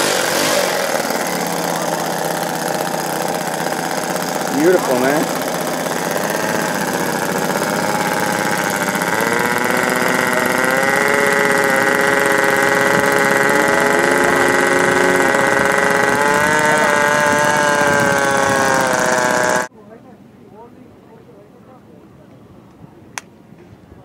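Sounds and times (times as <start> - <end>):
model plane engine droning: 0.0 - 19.7.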